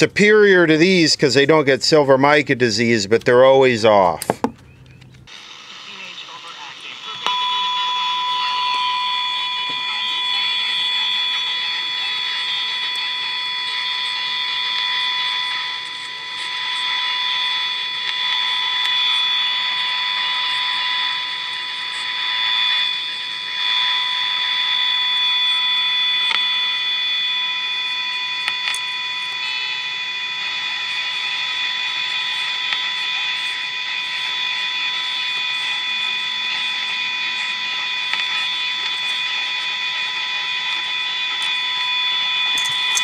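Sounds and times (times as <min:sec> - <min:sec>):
radio hiss: 0:05.3 - 0:43.0
radio test tone: 0:05.3 - 0:43.0.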